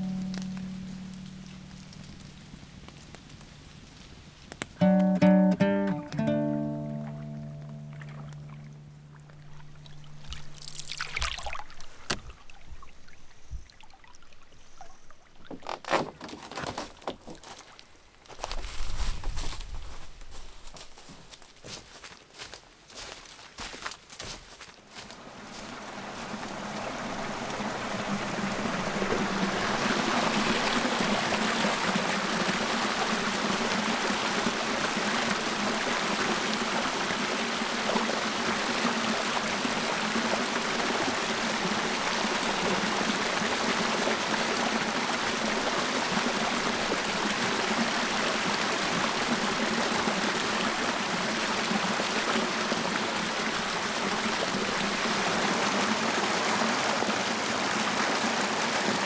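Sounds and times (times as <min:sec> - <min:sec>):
brook running over stones: 0:00.0 - 0:04.8, 0:06.4 - 0:59.0.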